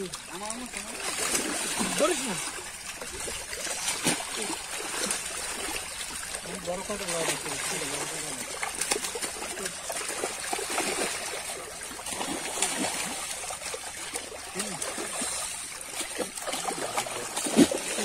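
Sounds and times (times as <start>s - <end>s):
fish splashing in water: 0.0s - 18.0s.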